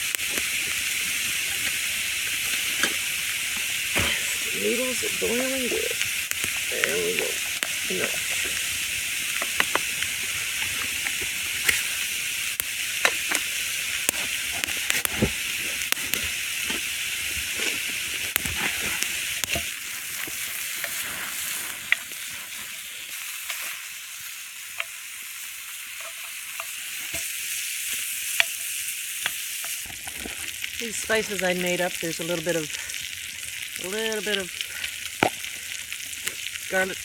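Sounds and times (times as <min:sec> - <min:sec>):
fire crackling and popping: 0:00.0 - 0:37.0
food sizzling over campfire: 0:00.0 - 0:37.0.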